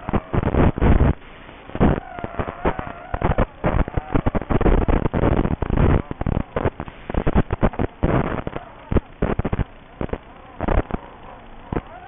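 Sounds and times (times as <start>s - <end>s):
faint wavering whine: 0.0s - 12.0s
quadcopter motors and propellers: 0.0s - 12.0s.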